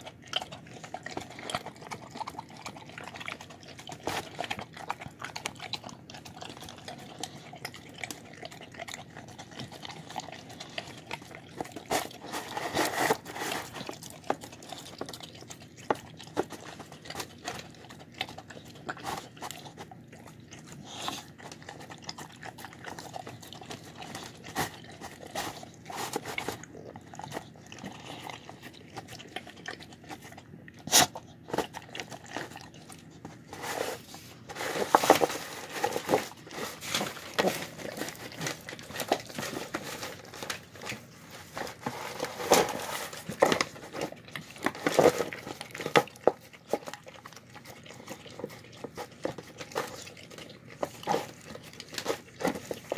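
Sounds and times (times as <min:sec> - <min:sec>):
dog chewing and licking: 0:00.0 - 0:52.9.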